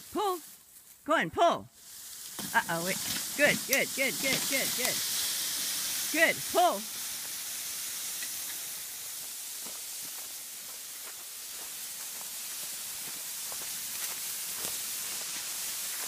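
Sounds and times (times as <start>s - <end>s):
leaves and twigs crackling: 0.0s - 1.1s, 1.7s - 16.0s
canes dragged over leaf litter: 1.8s - 16.0s.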